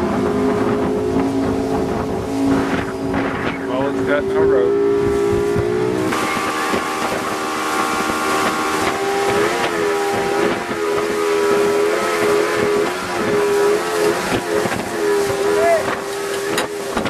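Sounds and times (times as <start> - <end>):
boat engine running: 0.0 - 17.0
constant rushing noise: 0.0 - 17.0.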